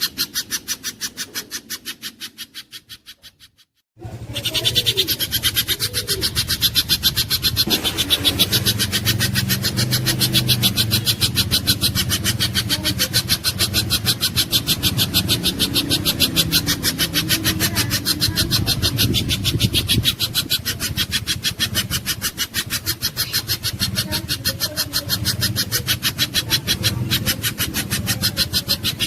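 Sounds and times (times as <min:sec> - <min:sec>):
bird calling sharp high notes: 0:04.2 - 0:29.0.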